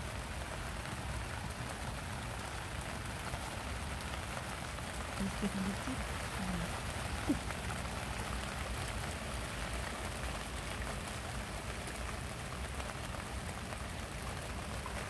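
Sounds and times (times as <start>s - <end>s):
rain on grass and leaves: 0.0s - 15.0s.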